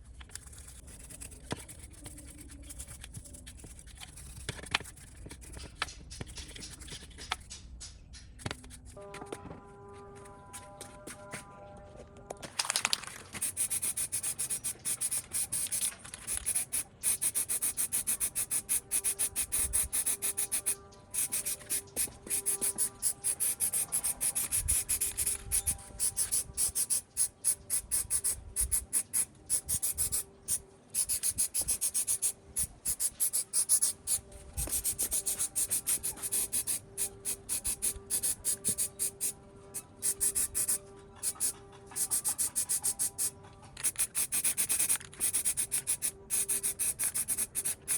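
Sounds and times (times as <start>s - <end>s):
sanding rusty metal: 0.3s - 7.6s, 13.4s - 47.9s.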